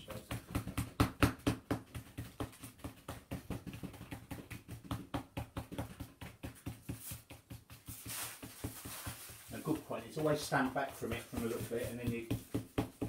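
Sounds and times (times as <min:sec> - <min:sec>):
paint dabbing on paper: 0:00.1 - 0:13.0.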